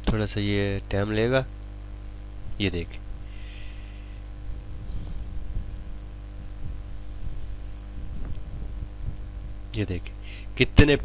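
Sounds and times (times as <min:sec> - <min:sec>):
electrical mains hum: 0:00.0 - 0:11.0
thin high whine: 0:00.0 - 0:11.0.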